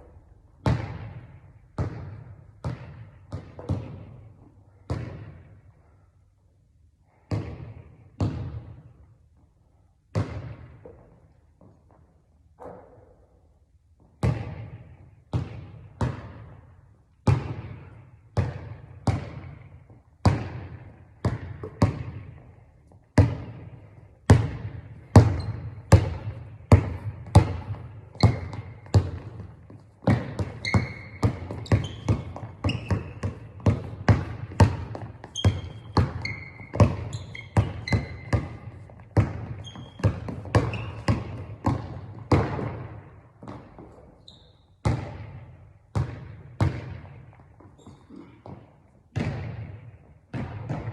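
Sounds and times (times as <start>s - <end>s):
basketball bouncing on court: 0.0s - 6.0s, 7.1s - 9.1s, 10.0s - 13.4s, 14.0s - 50.9s
sneakers squeaking on floor: 10.0s - 50.9s.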